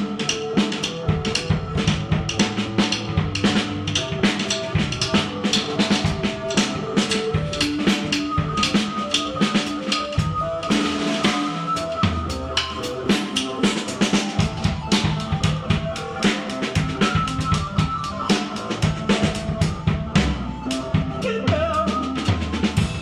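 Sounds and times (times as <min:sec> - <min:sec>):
electronic keyboard notes: 0:00.0 - 0:23.0
fast busy drumming: 0:00.0 - 0:23.0.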